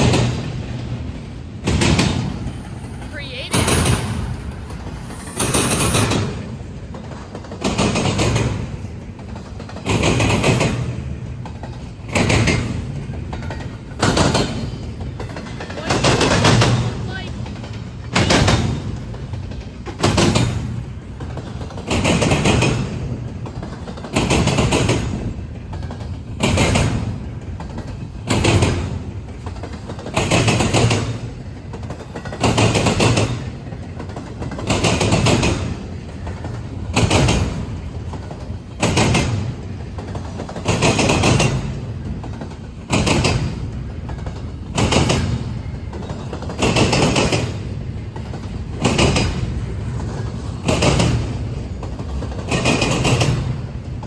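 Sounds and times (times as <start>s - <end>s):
train wheels clanking over rail joints: 0.0s - 54.0s.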